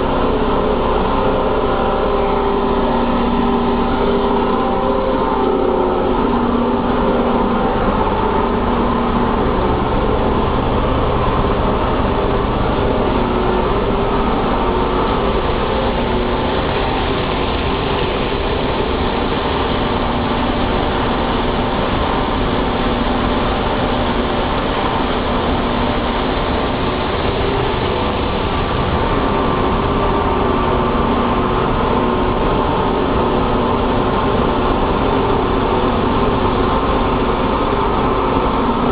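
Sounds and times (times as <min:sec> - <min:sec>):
paper mill machinery drone: 0:00.0 - 0:38.9.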